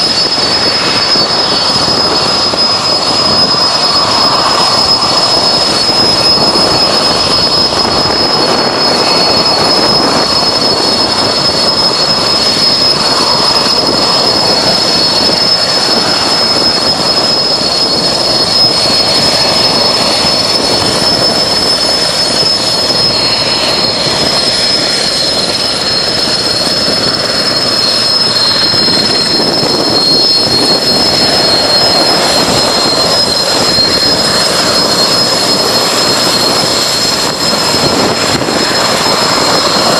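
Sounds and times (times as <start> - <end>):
high-pitched turbine whine: 0.0 - 39.9
main rotor rushing: 0.0 - 39.9.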